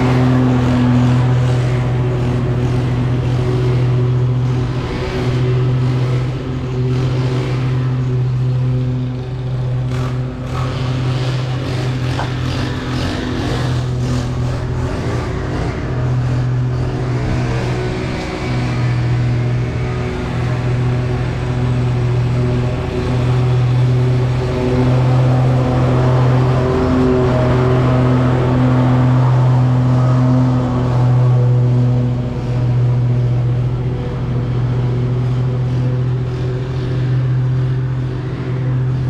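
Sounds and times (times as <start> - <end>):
lawn mower engine running: 0.0 - 39.0.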